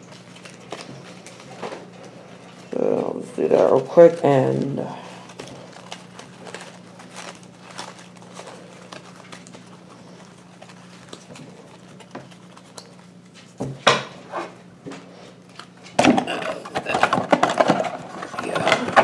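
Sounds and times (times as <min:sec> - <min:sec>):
trading cards rustling on table: 0:00.0 - 0:19.0.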